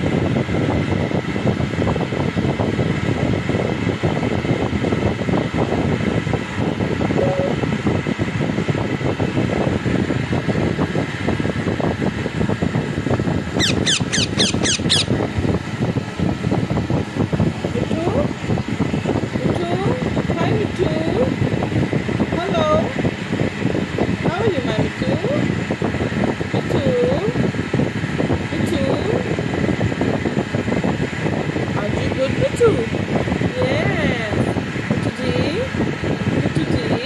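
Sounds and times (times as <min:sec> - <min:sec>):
air blowing across microphone: 0:00.0 - 0:37.0.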